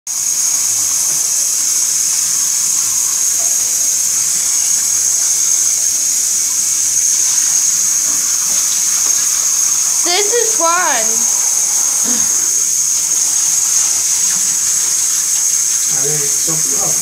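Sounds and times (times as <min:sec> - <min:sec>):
shower spray hissing into bathtub: 0:00.1 - 0:17.0.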